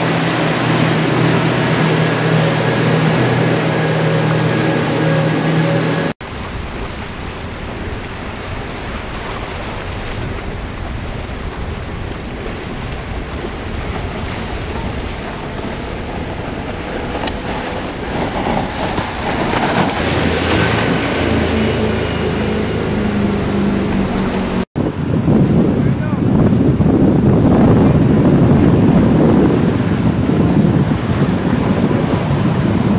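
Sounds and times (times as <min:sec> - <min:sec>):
boat engines humming: 0:00.0 - 0:32.9
waves washing: 0:00.0 - 0:32.9
wind on the microphone: 0:06.2 - 0:32.9.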